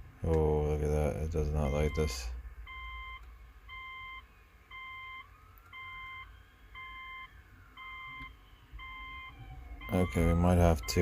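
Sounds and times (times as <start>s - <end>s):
electronic beeper beeping: 1.6s - 11.0s.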